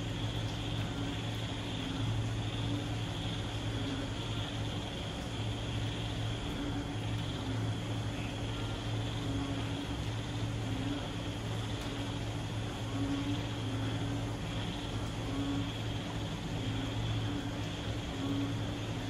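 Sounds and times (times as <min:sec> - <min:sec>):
frog chorus drone: 0:00.0 - 0:19.0
rain falling: 0:00.0 - 0:19.0.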